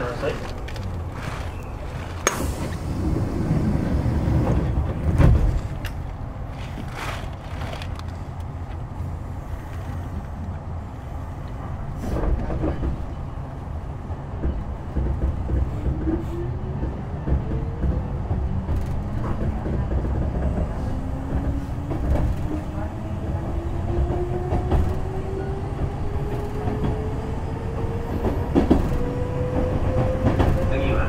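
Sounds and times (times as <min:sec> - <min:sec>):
train running rumble: 0:00.0 - 0:31.0.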